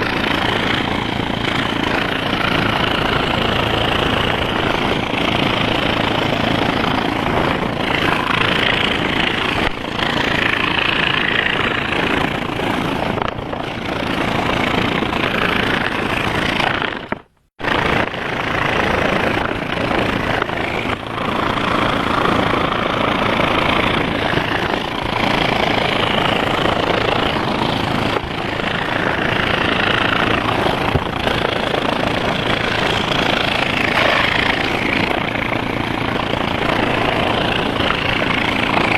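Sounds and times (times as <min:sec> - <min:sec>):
electric scroll saw cutting wood: 0:00.0 - 0:38.9.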